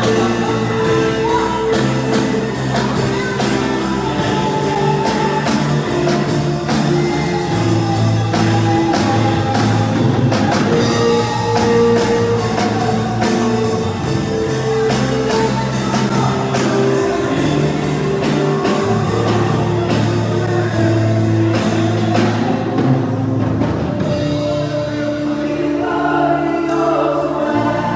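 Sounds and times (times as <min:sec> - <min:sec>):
rock band playing praise song: 0:00.0 - 0:27.9.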